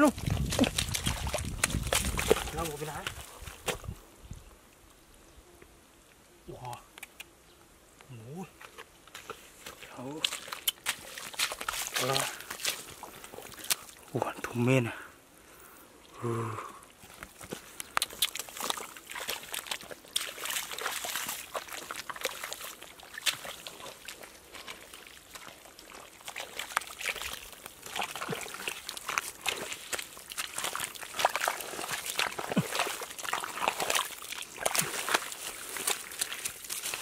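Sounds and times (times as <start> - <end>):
hands squelching in wet mud: 0.0 - 4.0, 8.6 - 14.7, 16.9 - 37.0.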